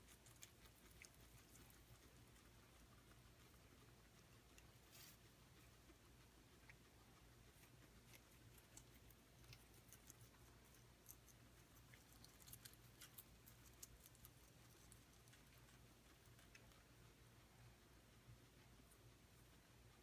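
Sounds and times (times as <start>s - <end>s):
small pet chewing vegetables: 0.0s - 20.0s.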